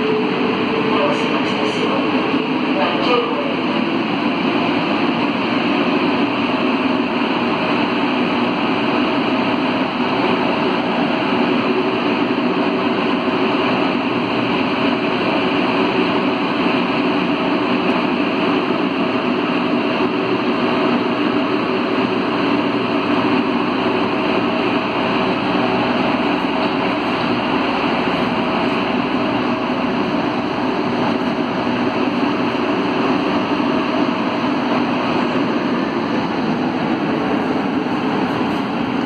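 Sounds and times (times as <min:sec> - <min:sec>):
metro train running in tunnel: 0:00.0 - 0:39.0.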